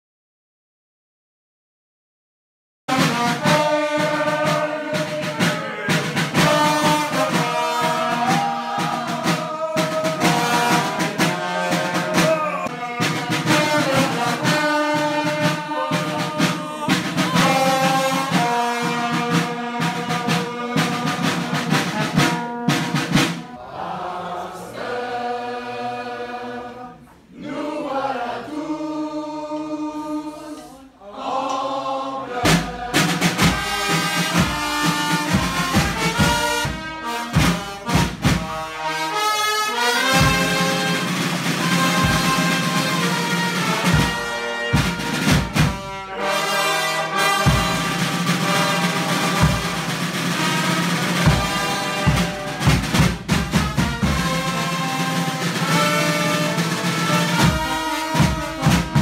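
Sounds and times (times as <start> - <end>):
snare and bass drums beating: 2.9 - 23.5, 32.3 - 59.0
brass band playing: 2.9 - 30.7, 31.8 - 59.0
crowd singing along: 3.0 - 37.1, 39.7 - 54.4.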